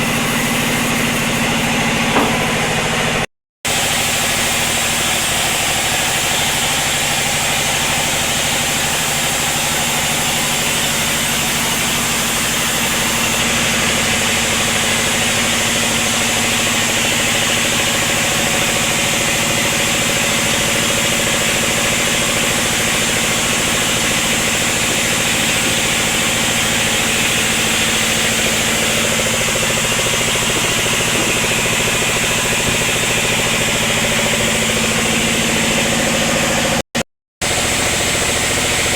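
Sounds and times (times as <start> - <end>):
sawmill machinery humming: 0.0 - 36.8, 37.4 - 38.9.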